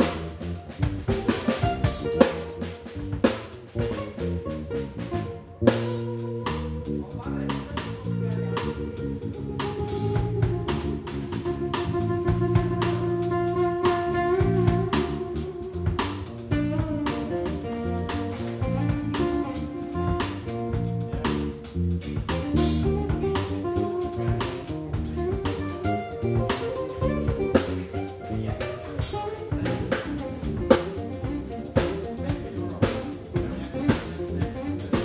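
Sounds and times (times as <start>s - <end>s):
bass line: 0.0s - 35.0s
drum kit: 0.0s - 35.0s
electric guitar: 0.0s - 35.0s.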